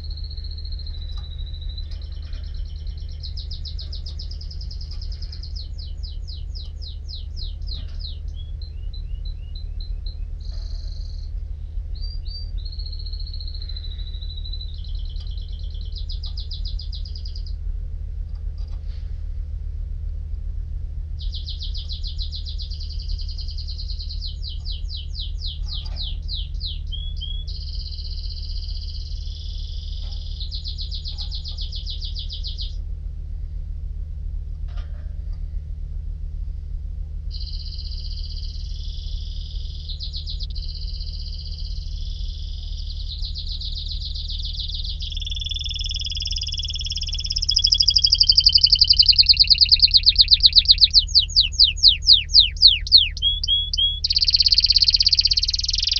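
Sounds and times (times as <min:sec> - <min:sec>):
canary singing trills: 0:00.0 - 0:17.6, 0:21.2 - 0:32.8, 0:37.3 - 0:55.9
low hum: 0:00.0 - 0:55.9.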